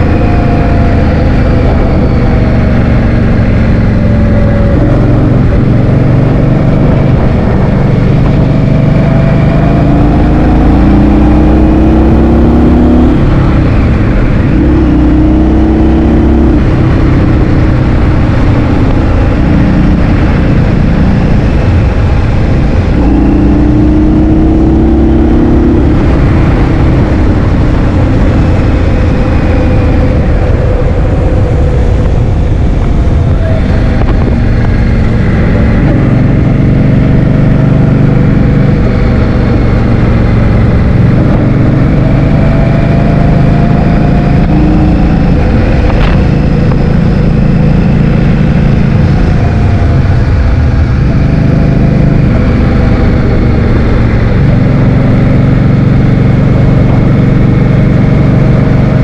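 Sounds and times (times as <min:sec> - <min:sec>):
wind buffeting microphone: 0:00.0 - 0:11.0, 0:12.1 - 0:58.2
vehicle engine revving: 0:00.0 - 0:59.0.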